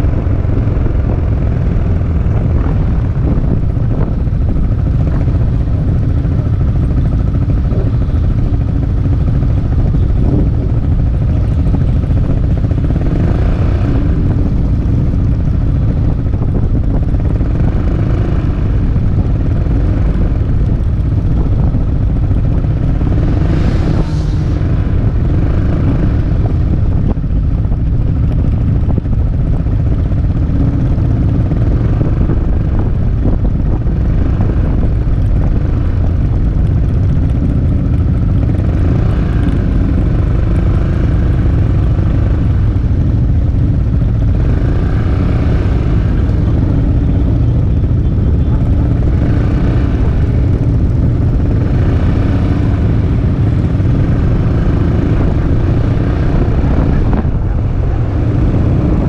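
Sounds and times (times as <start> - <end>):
motorcycles riding: 0.0 - 59.0
scooter engine running: 0.0 - 59.0
wind rumble on microphone: 0.0 - 59.0.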